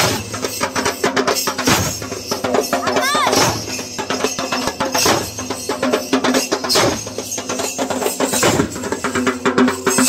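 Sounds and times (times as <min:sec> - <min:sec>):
fast drumming: 0:00.0 - 0:10.0.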